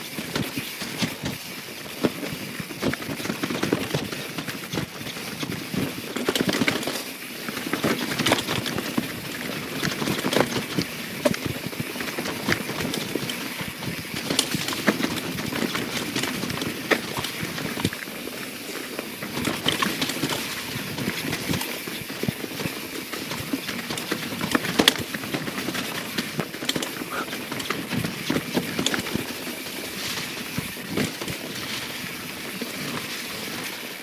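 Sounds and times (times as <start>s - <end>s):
bike knocking and rattling: 0.0s - 34.0s
bike tyres rolling on trail: 0.0s - 34.0s.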